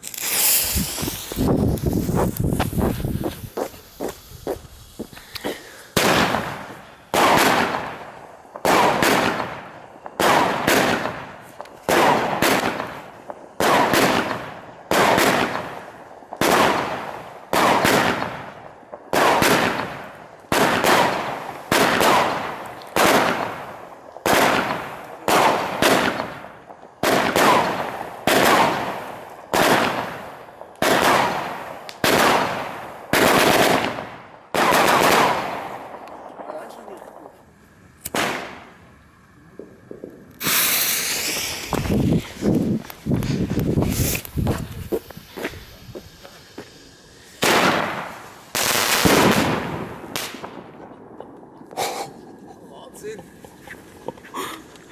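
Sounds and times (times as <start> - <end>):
firework bangs: 0.0 - 54.9.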